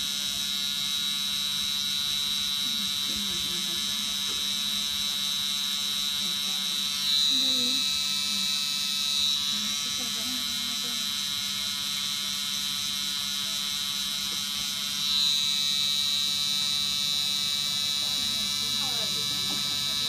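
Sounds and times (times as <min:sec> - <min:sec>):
tattoo machine whining: 0:00.0 - 0:20.0.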